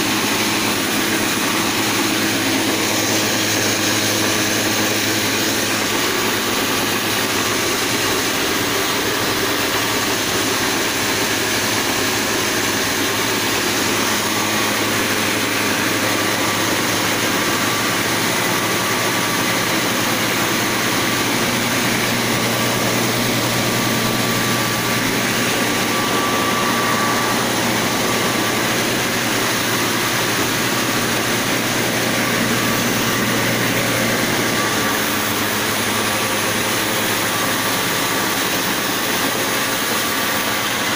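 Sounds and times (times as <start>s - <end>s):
grain mill grinding: 0.0s - 40.9s.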